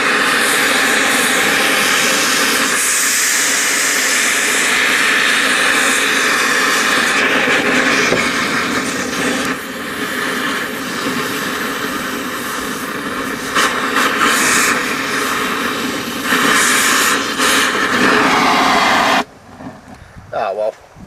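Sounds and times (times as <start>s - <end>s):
cutting torch hissing: 0.0s - 19.3s.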